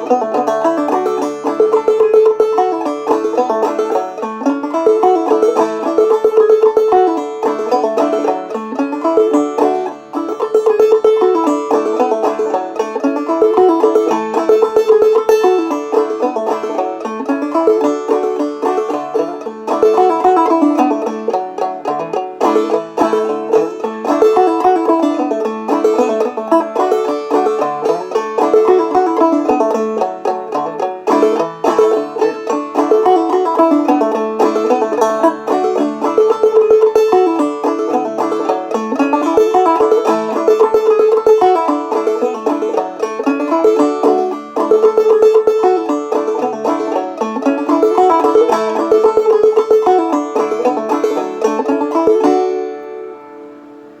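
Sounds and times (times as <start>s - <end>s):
banjo playing old-time tune: 0.0s - 54.0s.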